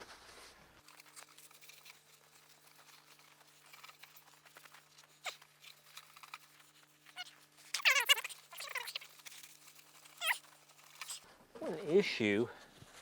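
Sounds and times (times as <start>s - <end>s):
small clicks and rustles: 0.1s - 11.3s.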